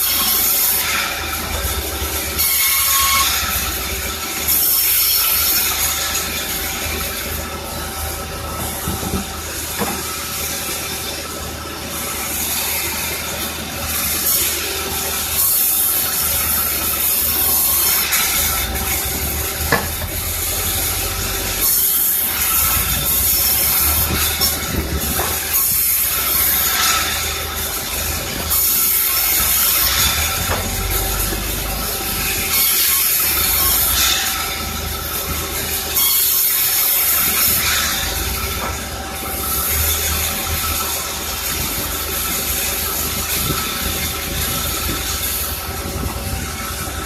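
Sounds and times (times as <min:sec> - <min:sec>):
sawmill saw cutting timber: 0:00.0 - 0:47.0.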